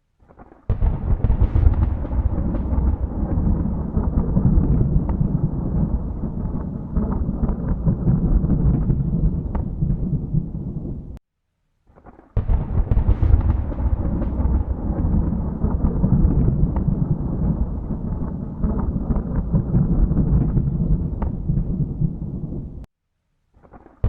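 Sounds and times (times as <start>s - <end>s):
thunder clap: 0.3s - 11.2s, 12.1s - 22.9s
thunder rumbling: 0.7s - 11.2s, 12.4s - 22.9s.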